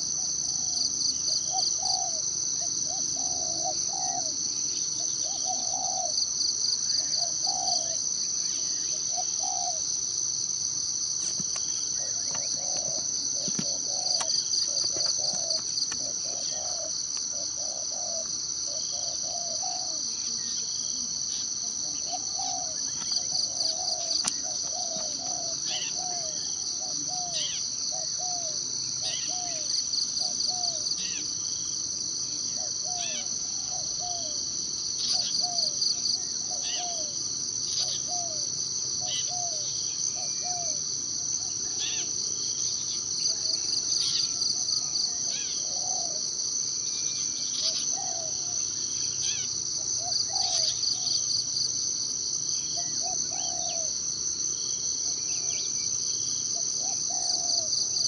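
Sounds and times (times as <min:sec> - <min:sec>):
pulsing insect drone: 0:00.0 - 0:58.0.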